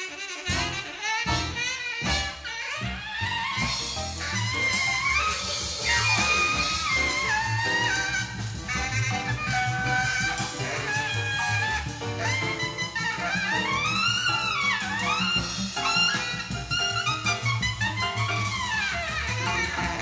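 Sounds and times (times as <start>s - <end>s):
cymbals: 0.0s - 20.0s
saxophone lead: 0.0s - 20.0s
walking bass: 0.5s - 20.0s.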